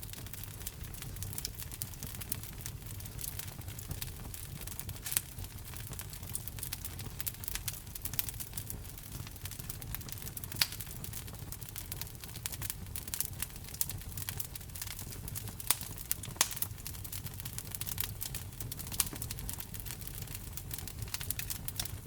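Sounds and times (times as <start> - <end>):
logs crackling and popping: 0.0 - 22.0
low fire rumble: 0.0 - 22.0.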